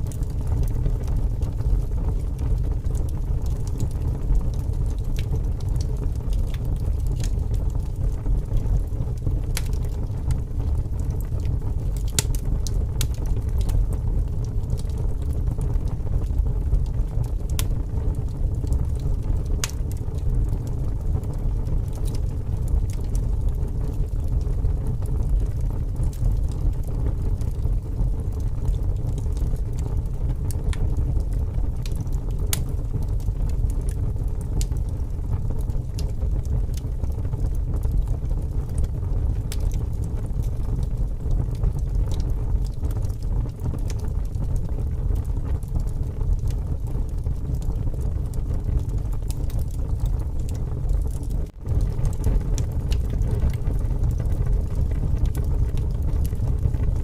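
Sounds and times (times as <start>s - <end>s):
strong wind rumble: 0.0s - 57.0s
wood fire crackling: 0.0s - 57.0s.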